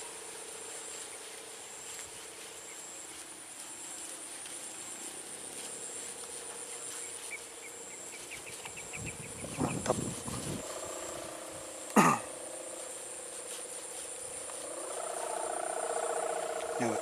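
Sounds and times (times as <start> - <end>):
high insect whine: 0.0 - 17.0
kite hummer droning: 0.0 - 17.0.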